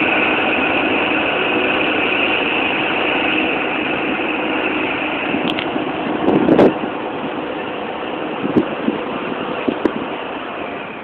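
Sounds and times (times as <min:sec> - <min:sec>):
diesel train engine running: 0:00.0 - 0:11.0.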